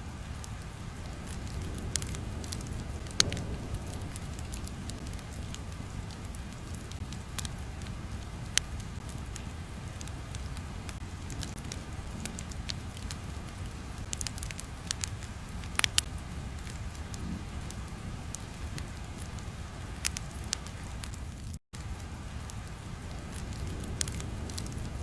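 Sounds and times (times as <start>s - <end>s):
crackling and popping: 0.0s - 25.0s
low rumble: 0.0s - 25.0s.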